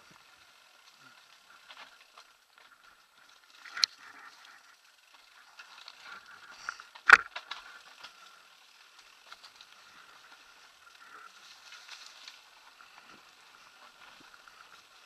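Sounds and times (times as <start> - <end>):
bike rattling: 0.0 - 15.0
bike tyres crunching on leaves: 0.0 - 15.0.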